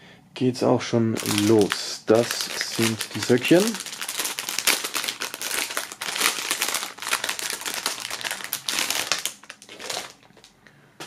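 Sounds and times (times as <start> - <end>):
plastic bag crinkling: 1.2 - 10.6.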